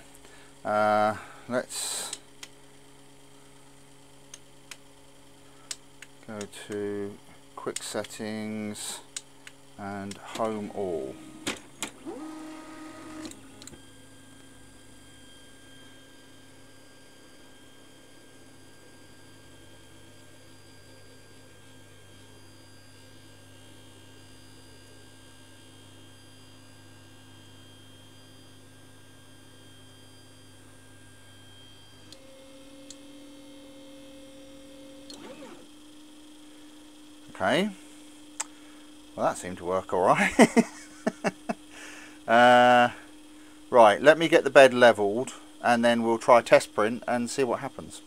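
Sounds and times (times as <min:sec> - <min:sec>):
stepper motors humming whine: 0:00.0 - 0:48.0.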